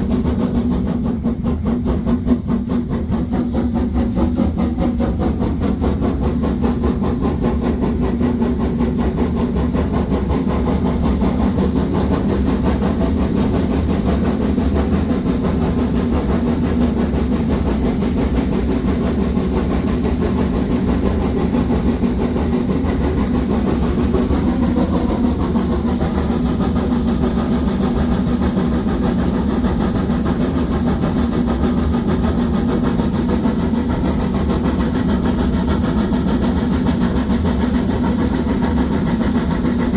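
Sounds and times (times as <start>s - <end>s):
steam locomotive exhaust beating: 0.0s - 39.9s.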